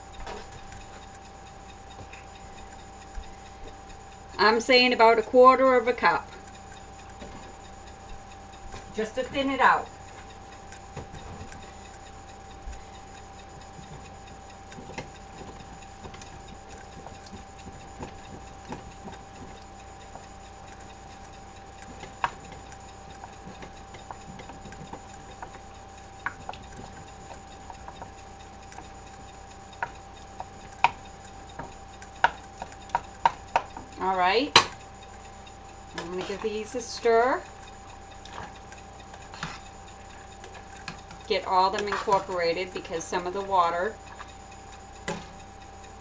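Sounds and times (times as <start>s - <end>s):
faint steady background tone: 0.0s - 46.0s.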